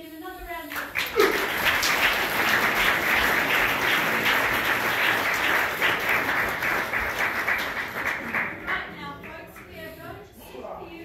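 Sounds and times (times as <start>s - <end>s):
audience applauding: 0.7s - 9.7s.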